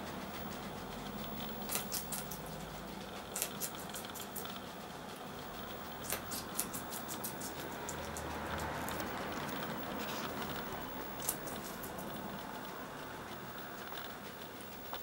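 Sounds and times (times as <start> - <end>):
steady hiss: 0.0 - 15.0
guinea pigs crunching pepper: 0.1 - 15.0.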